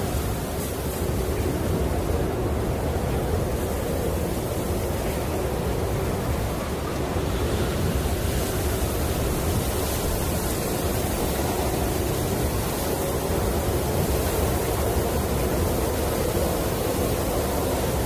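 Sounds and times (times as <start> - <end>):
snowstorm wind blowing: 0.0 - 18.0.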